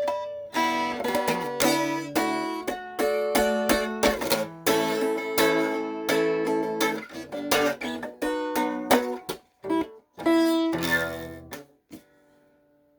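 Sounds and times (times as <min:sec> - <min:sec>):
guitar strumming chords: 0:00.0 - 0:12.2.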